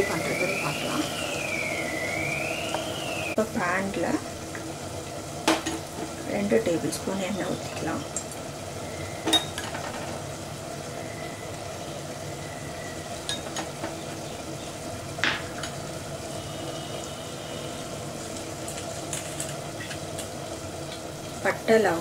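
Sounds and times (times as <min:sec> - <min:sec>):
stove hissing: 0:00.0 - 0:22.0.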